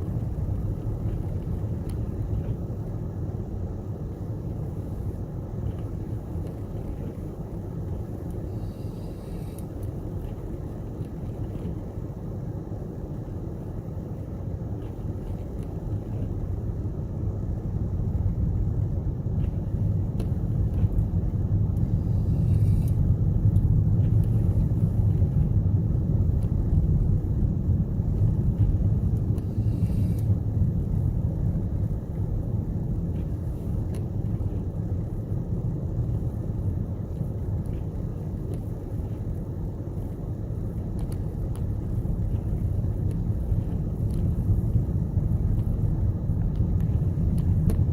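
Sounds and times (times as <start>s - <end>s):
tyre noise on road: 0.0s - 47.9s.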